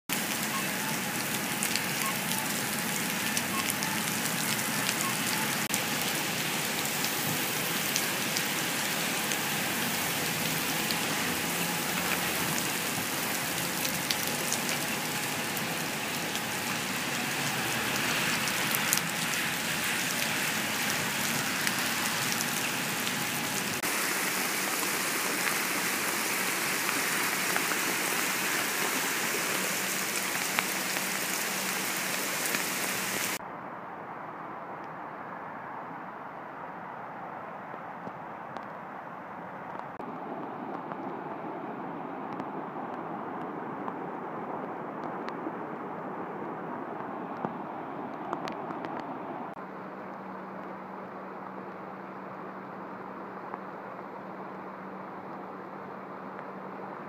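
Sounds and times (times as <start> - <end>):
heavy rain: 0.1 - 57.0.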